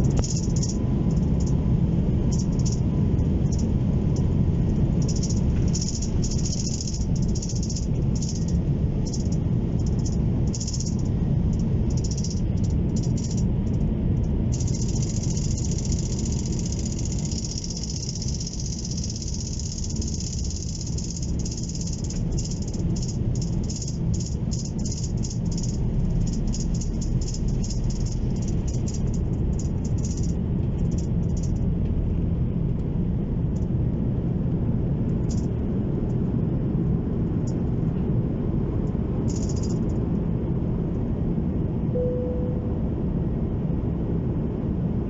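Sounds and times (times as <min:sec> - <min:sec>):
jet engines rumbling: 0:00.0 - 0:45.0.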